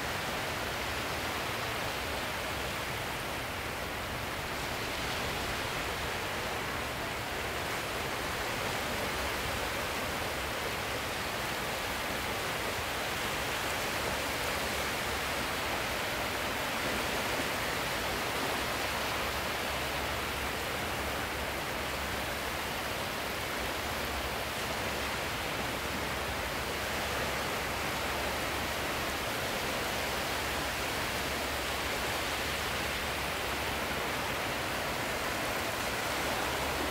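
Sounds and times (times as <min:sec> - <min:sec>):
sea surf rushing: 0:00.0 - 0:36.9.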